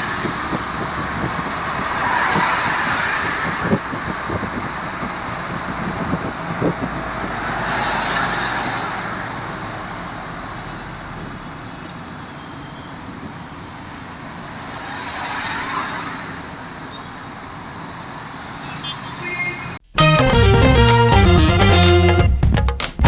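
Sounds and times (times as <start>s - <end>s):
road traffic noise: 0.0s - 20.1s.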